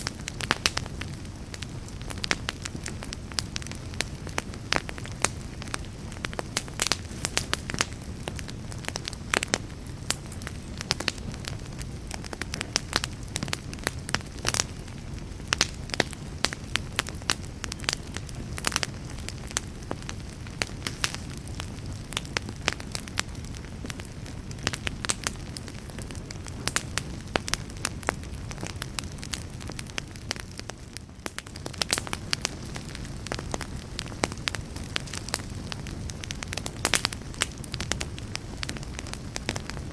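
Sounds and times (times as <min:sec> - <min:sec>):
fire pops and crackles: 0:00.0 - 0:39.9
low rumble of flames: 0:00.0 - 0:39.9.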